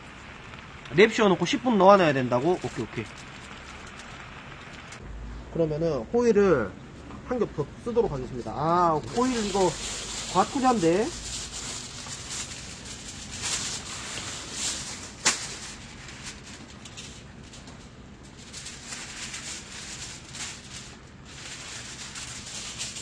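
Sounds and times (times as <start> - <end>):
foil crinkling and rustling: 0.0 - 5.0, 9.0 - 23.0.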